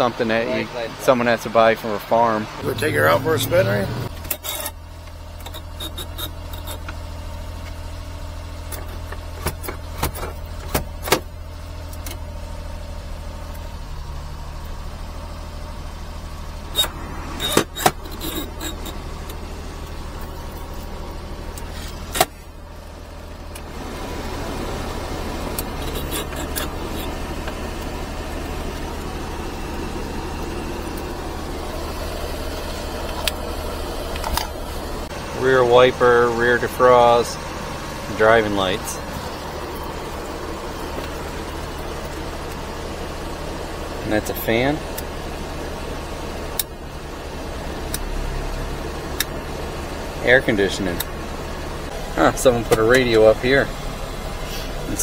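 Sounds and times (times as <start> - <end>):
small van engine idling: 0.0 - 55.0.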